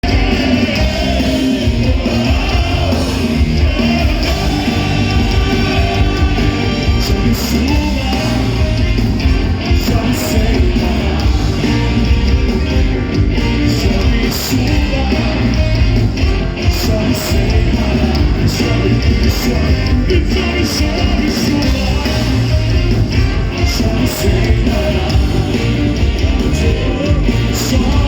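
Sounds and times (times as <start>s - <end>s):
loud rock band music: 0.0s - 28.0s.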